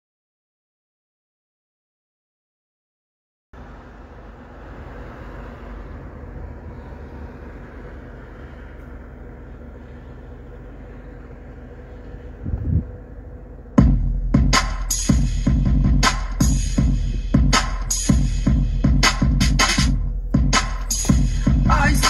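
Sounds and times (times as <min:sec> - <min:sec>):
faint hum: 0:03.6 - 0:22.0
low rumble and hiss: 0:03.6 - 0:22.0.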